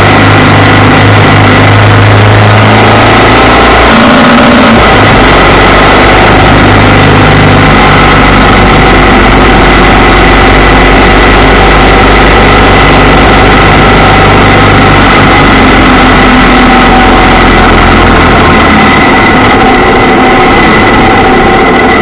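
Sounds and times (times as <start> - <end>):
motorcycle engine running: 0.0 - 22.0
road noise: 0.0 - 22.0
wind noise: 0.0 - 22.0.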